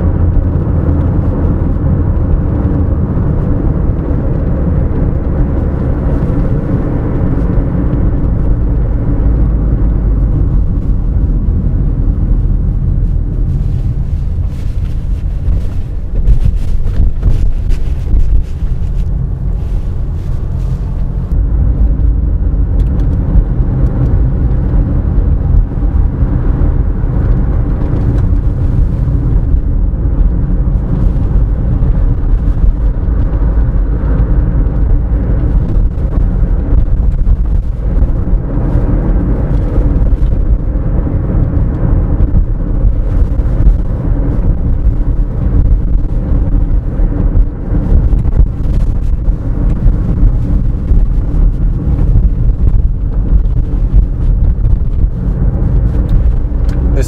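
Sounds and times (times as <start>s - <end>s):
car engine running: 0.0s - 57.0s
road and tyre noise: 0.0s - 57.0s.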